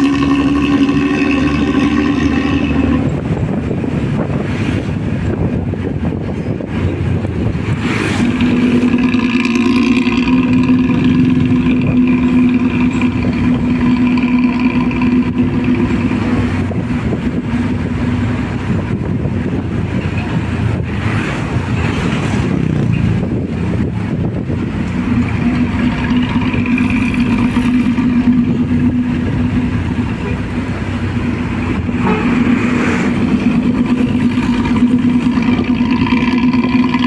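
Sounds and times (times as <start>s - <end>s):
steady droning note: 0.0s - 20.9s, 23.0s - 37.0s
diesel bus exhaust growl: 0.0s - 37.0s.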